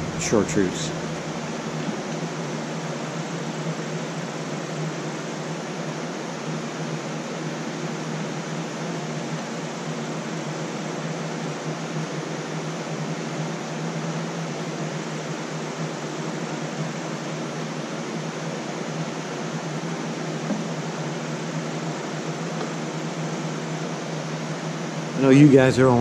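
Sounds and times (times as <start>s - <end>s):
air conditioner and fan whirring: 0.0s - 26.0s.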